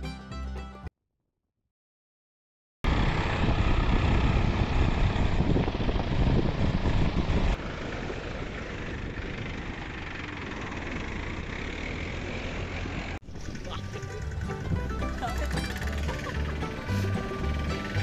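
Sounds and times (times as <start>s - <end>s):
diesel tractor engine running: 2.9s - 18.0s.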